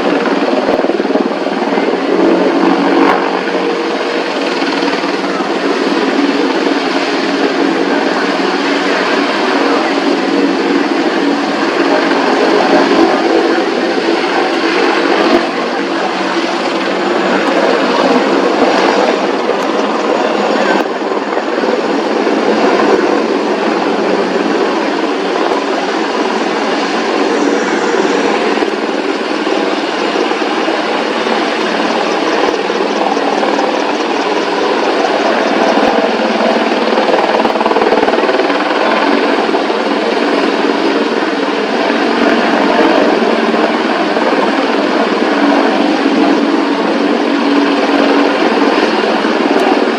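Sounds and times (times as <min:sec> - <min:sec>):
helicopter rotor and turbine: 0:00.0 - 0:49.9.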